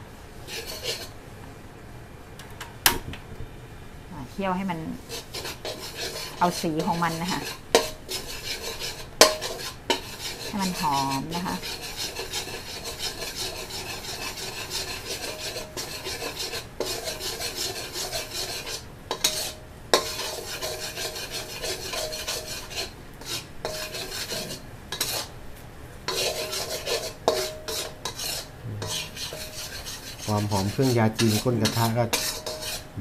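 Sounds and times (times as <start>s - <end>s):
metal spatula scraping a wok: 0.4s - 1.2s, 5.0s - 25.4s, 26.1s - 33.0s
spatula knocking on wok: 5.3s - 25.3s, 26.1s - 32.9s.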